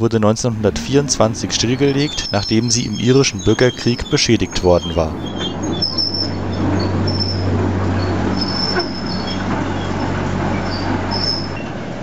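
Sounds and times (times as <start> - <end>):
locomotive engine hum: 0.0 - 12.0
high wheel squeals: 0.3 - 12.0.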